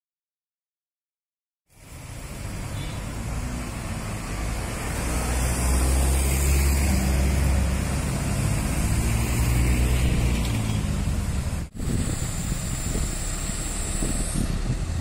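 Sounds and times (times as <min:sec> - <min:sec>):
street traffic noise: 0:01.7 - 0:15.0
vehicle engine rumble: 0:01.7 - 0:15.0.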